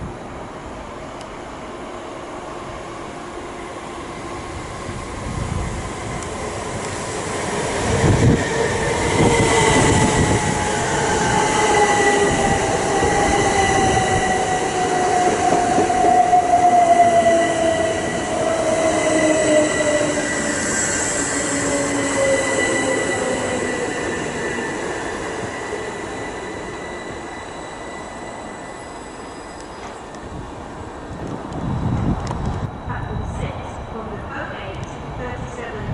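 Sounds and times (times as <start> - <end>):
train passing with whine: 0.0 - 35.9.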